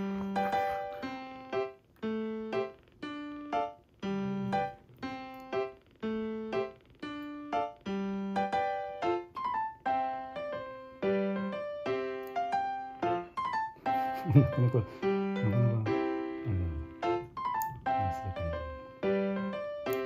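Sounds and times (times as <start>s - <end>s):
light piano tune: 0.0s - 20.0s.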